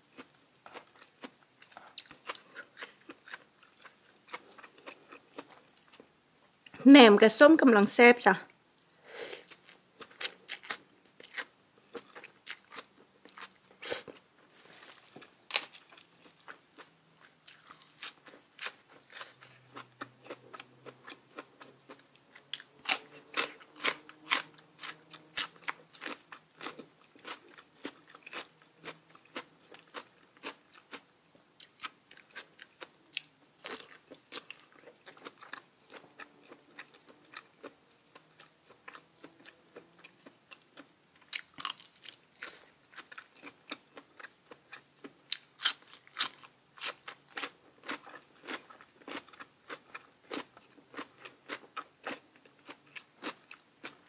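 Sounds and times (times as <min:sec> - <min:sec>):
person chewing crunchy food: 0:00.0 - 0:06.1, 0:09.2 - 0:54.0.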